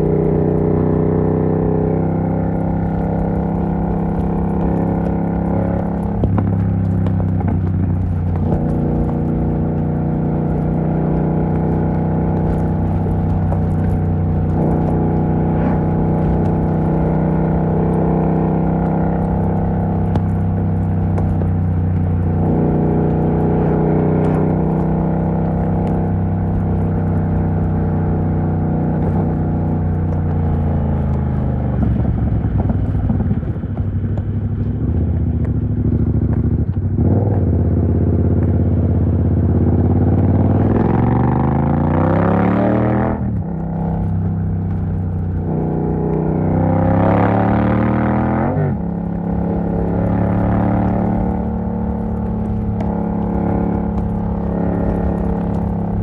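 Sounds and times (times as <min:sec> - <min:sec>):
loud motorcycle engine: 0:00.0 - 0:56.0.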